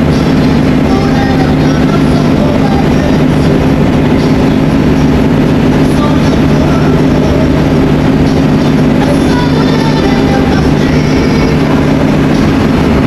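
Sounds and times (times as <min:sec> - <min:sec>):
coach engine and road drone: 0:00.0 - 0:13.0.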